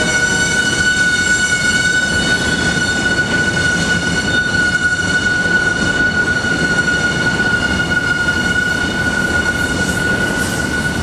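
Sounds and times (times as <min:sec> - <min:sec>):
high-pitched whine: 0:00.0 - 0:11.0
train wheels rumbling on rail: 0:00.0 - 0:11.0.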